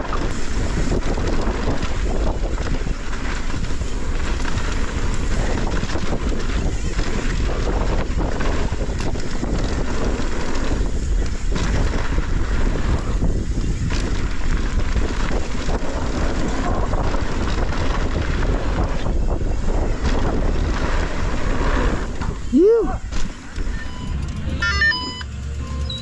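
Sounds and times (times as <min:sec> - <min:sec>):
wind buffeting microphone: 0:00.0 - 0:25.2
bike knocking and clattering: 0:00.0 - 0:26.0
bike tyres rolling on dirt: 0:00.0 - 0:26.0.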